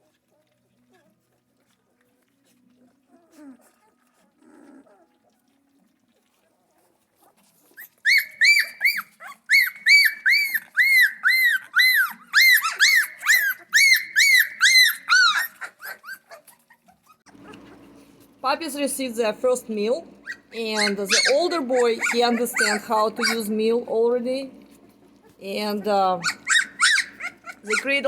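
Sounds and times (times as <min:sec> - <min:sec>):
puppy whining: 0:00.0 - 0:18.8, 0:19.4 - 0:28.0.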